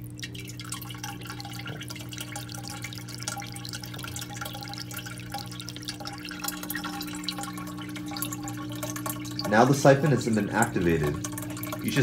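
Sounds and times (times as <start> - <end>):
steady low hum: 0.0 - 12.0
water splashing and dripping: 0.0 - 12.0.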